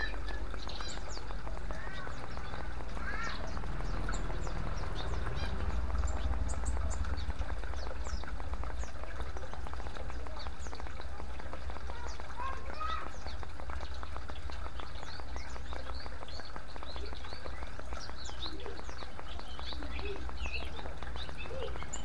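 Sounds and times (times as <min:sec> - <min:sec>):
fountain water trickling and splashing: 0:00.0 - 0:22.0
small birds chirping: 0:00.0 - 0:22.0.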